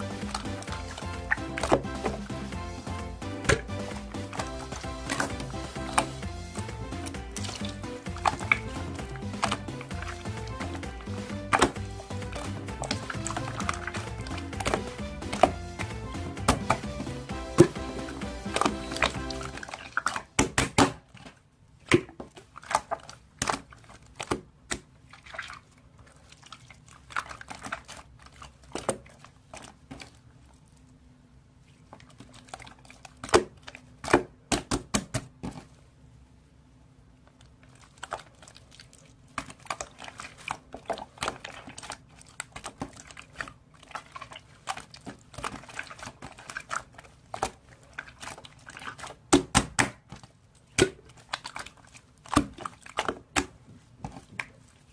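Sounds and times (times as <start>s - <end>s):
slime squishing by hand: 0.0s - 36.0s, 37.1s - 54.9s.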